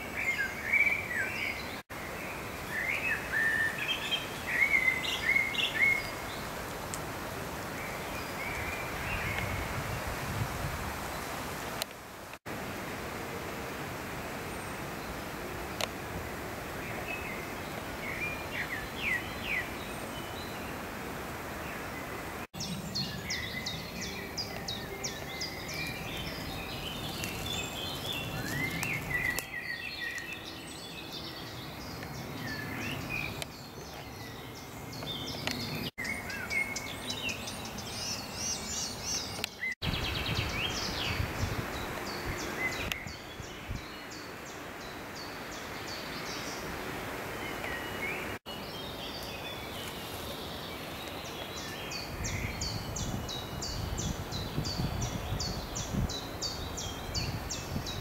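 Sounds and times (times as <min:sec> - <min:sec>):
songbirds singing: 0:00.0 - 0:10.2, 0:14.4 - 0:58.0.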